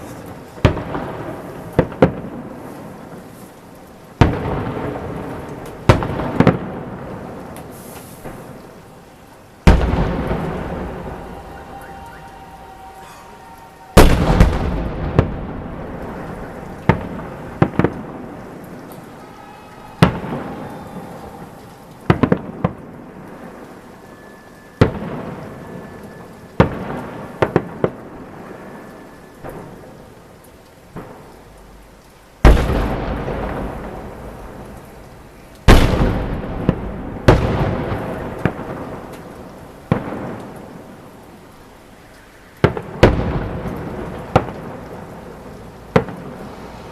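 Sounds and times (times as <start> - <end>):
firework shells booming: 0.0 - 3.4, 4.2 - 9.0, 9.6 - 24.0, 24.8 - 28.8, 32.4 - 40.9, 42.6 - 46.5.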